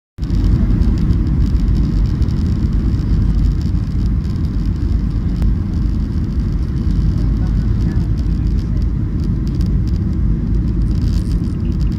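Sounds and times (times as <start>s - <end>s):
airplane cabin engine rumble: 0.2s - 11.9s.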